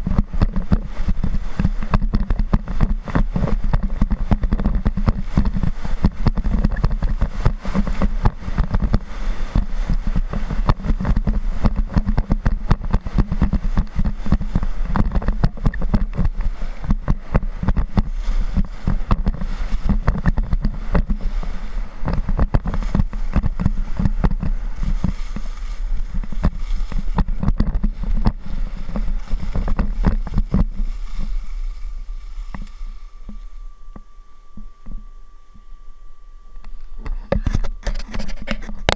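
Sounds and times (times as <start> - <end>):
skis scraping over snow: 0.0 - 33.4
wind buffeting microphone: 0.0 - 35.8.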